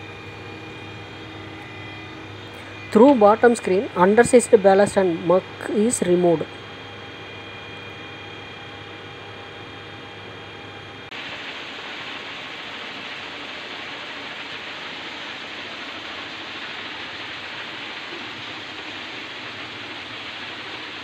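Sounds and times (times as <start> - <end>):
machine humming with steady tones: 0.0 - 21.0.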